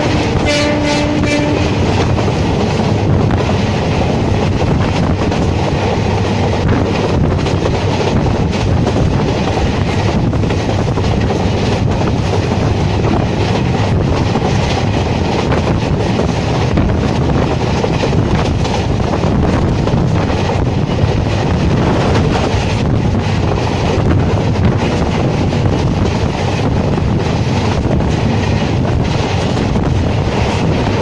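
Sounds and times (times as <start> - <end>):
rail joint clicks: 0.0 - 31.0
train wheels rumbling on track: 0.0 - 31.0
wind rushing past microphone: 0.0 - 31.0.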